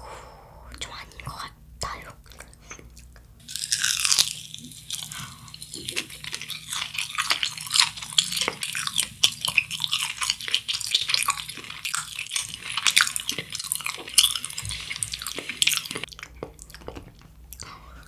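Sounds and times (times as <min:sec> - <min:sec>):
chewing with wet mouth clicks: 0:02.2 - 0:17.8.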